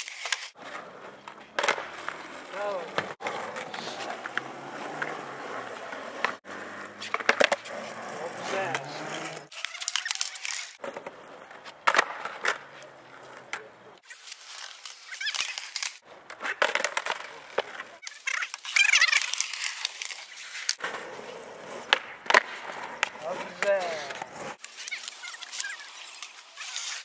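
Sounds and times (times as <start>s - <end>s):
skateboard clacking on ground: 0.0s - 14.0s, 15.3s - 27.0s
skateboard wheels rolling on asphalt: 0.0s - 27.0s.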